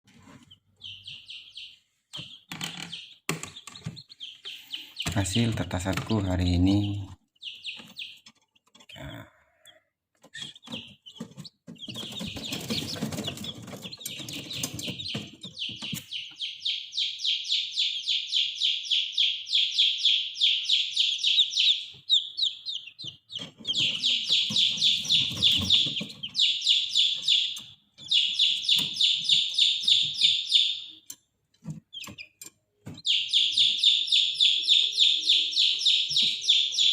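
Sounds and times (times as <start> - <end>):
chicks peeping: 0.1 - 36.9.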